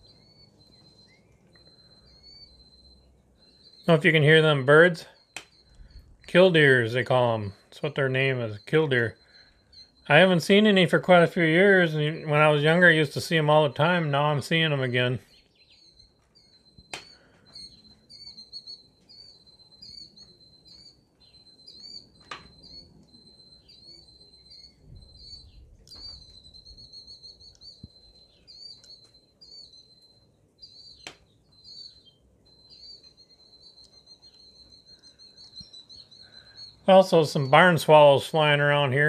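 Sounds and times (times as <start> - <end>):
killdeer calling: 0.0 - 39.0.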